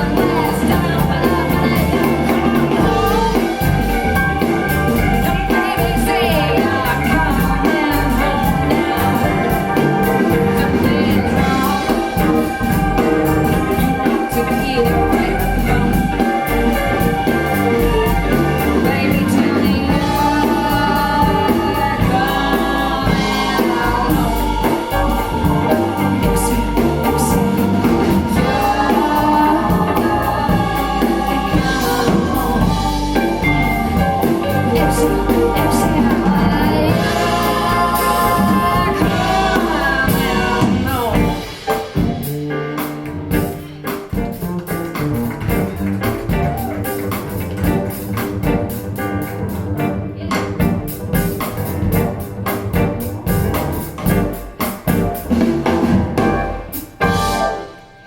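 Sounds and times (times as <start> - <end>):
steady beat: 0.0 - 57.7
song with lead and backing vocals: 0.0 - 58.0.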